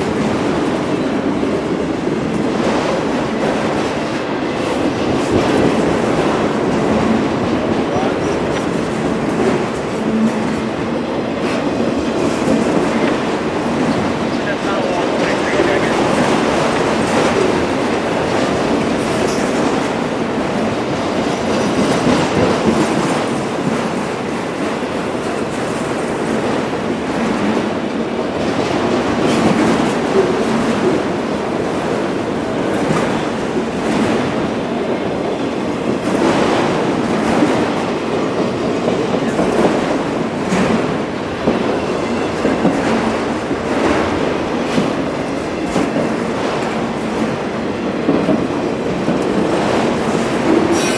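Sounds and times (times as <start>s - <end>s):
freight train wheels clattering: 0.0s - 50.9s.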